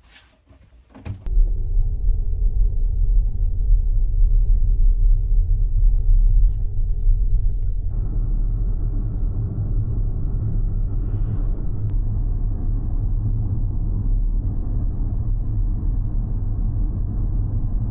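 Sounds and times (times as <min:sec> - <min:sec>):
vehicle rumble in motion: 0:00.0 - 0:17.9.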